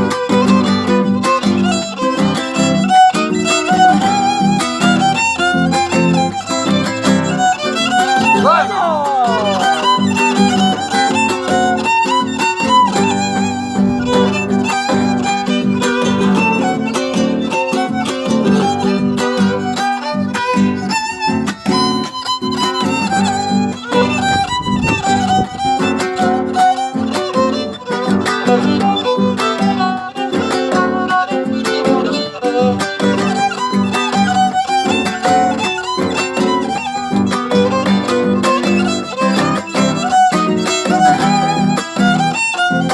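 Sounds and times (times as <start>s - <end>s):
guitar accompaniment: 0.0s - 42.9s.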